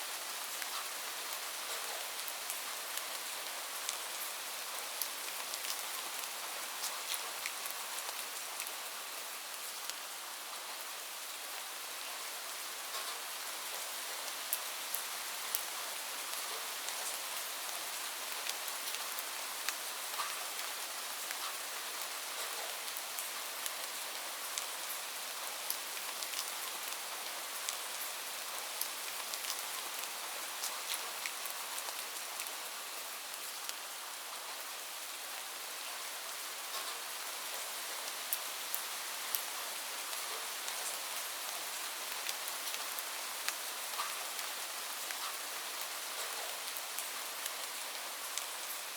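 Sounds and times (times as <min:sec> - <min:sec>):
light rain falling: 0:00.0 - 0:48.9.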